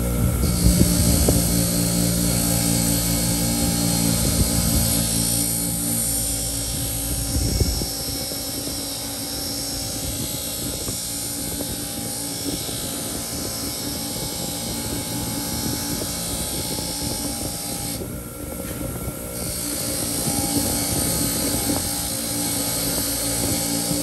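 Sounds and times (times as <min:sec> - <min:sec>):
bench grinder motor drone: 0:00.0 - 0:24.0.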